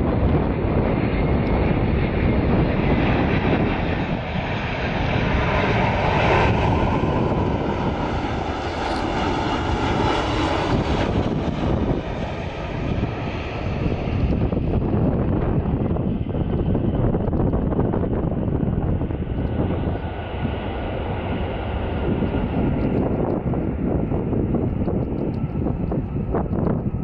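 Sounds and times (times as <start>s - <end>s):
jet airliner flying past: 0.0s - 27.0s.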